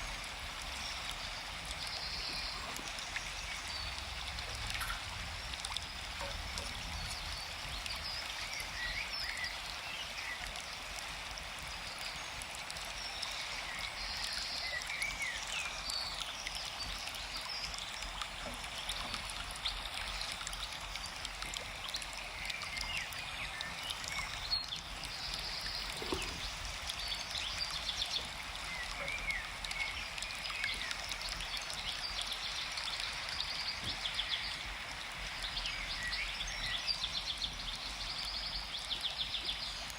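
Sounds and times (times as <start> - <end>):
small birds chirping: 0.0 - 39.9
stream water running: 0.0 - 39.9.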